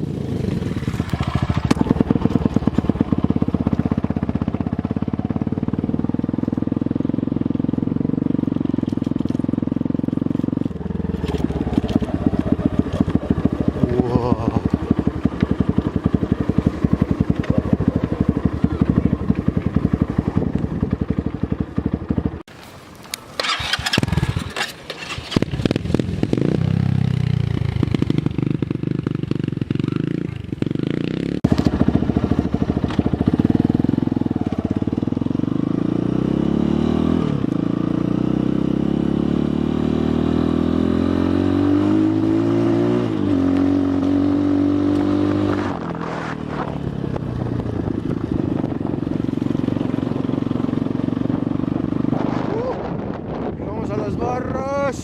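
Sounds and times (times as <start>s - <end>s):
dirt bike engine revving: 0.0s - 22.4s, 23.3s - 53.4s.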